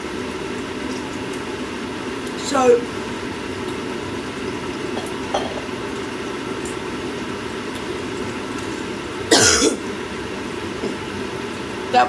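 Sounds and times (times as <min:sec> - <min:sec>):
sausages sizzling in a frying pan: 0:00.0 - 0:12.0.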